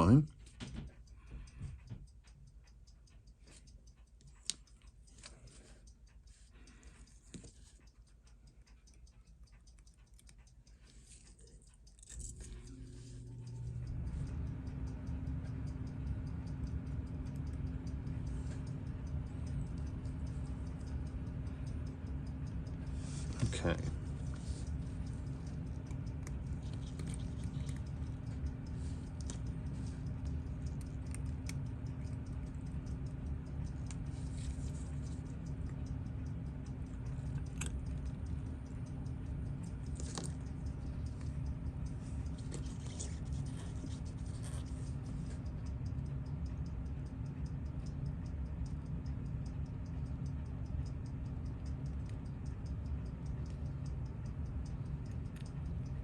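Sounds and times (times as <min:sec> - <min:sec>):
faint clicks and scratches of tools: 0:00.0 - 0:56.0
low hum of room noise: 0:00.0 - 0:56.0.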